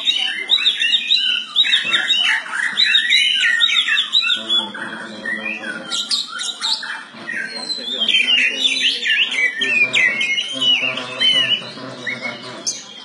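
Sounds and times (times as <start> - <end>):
magpie-robin singing: 0.0 - 13.0.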